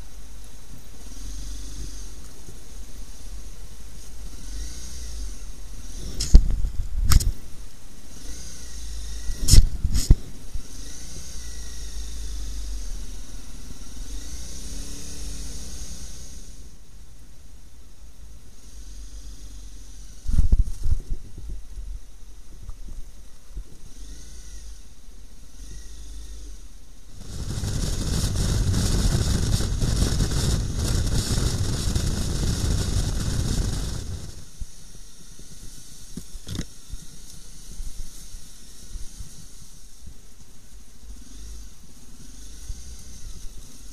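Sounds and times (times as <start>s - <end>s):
wind rumble on microphone: 0.0s - 16.6s, 18.8s - 24.8s, 25.6s - 40.4s
motorcycle engine running: 0.0s - 43.9s.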